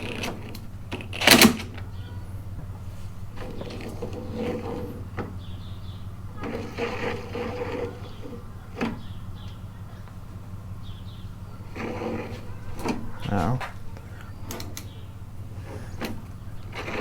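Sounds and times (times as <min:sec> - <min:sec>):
mower wheel parts clattering: 0:00.0 - 0:17.0.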